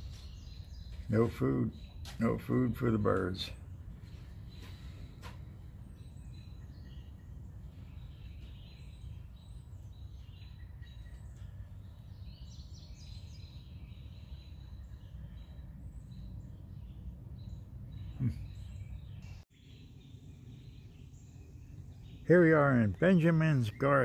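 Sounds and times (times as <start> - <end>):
birds chirping and singing: 0.0 - 24.0.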